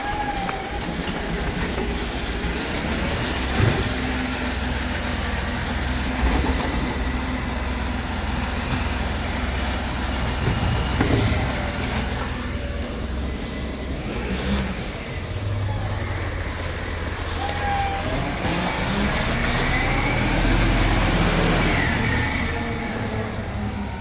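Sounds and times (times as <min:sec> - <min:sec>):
garbage truck running: 0:00.0 - 0:24.0.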